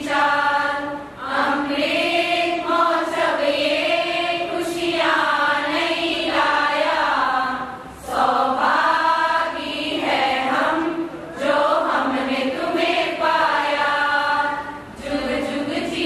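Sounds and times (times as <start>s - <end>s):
women singing in unison: 0.0s - 16.0s.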